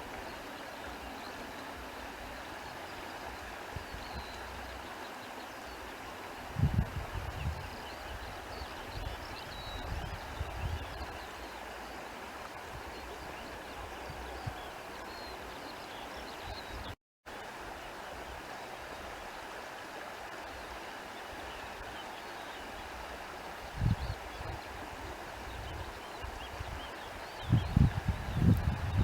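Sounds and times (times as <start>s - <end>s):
stream running water: 0.0s - 29.0s.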